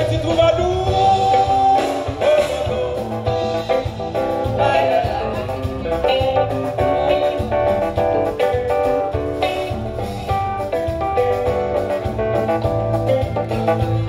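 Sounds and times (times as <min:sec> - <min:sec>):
live band playing instrumental: 0:00.0 - 0:14.0.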